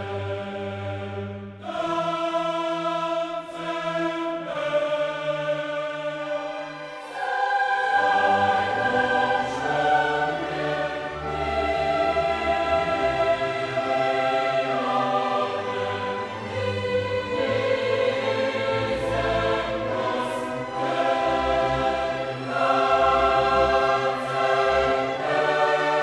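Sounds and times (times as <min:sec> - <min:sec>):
choir singing long held notes: 0:00.0 - 0:26.0.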